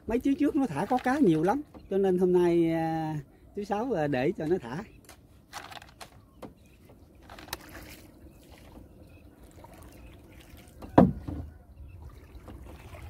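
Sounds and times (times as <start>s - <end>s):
water lapping around boat: 0.0s - 13.0s.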